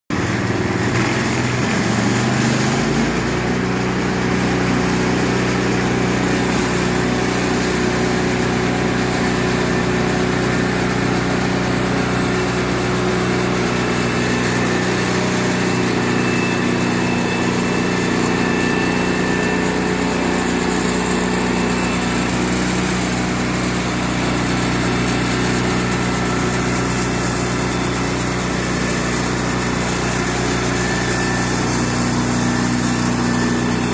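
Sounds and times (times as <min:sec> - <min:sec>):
small engine running: 0:00.1 - 0:33.9.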